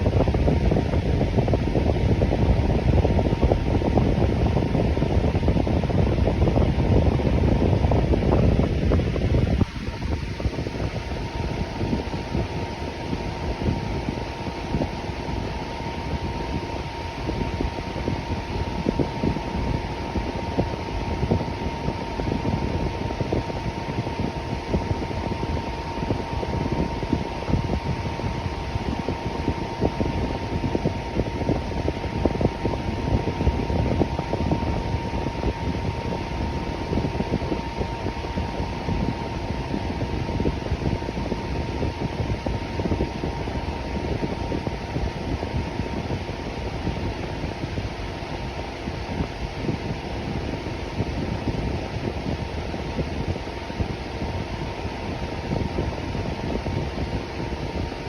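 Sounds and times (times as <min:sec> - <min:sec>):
electric fan whirring: 0:00.0 - 0:58.0.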